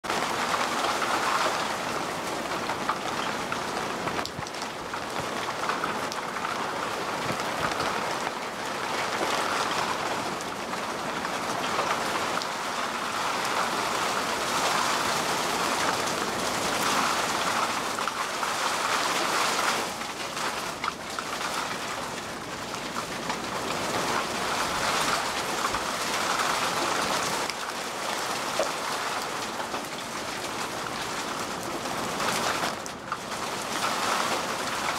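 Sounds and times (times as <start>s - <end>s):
heavy rain on road: 0.0s - 34.9s.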